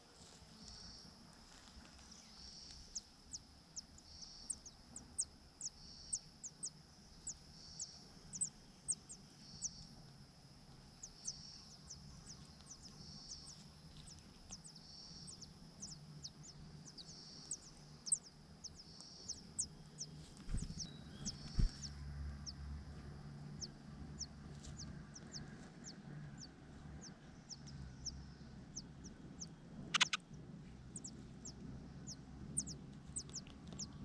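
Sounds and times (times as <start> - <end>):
low steady hum: 0.0 - 34.0
small bird chirping: 0.2 - 34.0.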